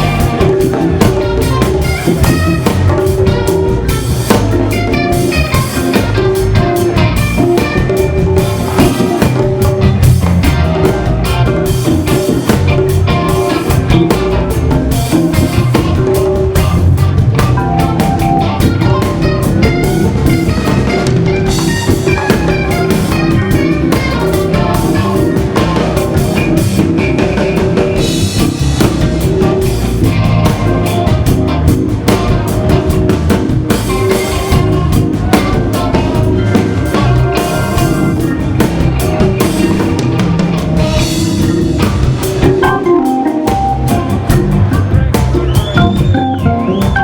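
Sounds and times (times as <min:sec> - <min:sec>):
drum kit groove: 0:00.0 - 0:47.0
organ playing chords: 0:00.0 - 0:47.0.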